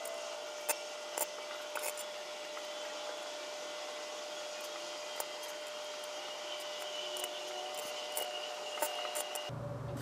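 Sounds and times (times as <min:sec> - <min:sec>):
microwave oven humming: 0:00.0 - 0:10.0.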